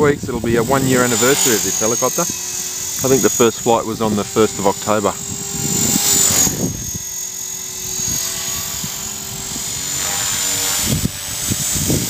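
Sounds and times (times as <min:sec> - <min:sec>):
electric motor and gears whining: 0:00.0 - 0:12.0
rotor blades whooshing: 0:00.0 - 0:12.0.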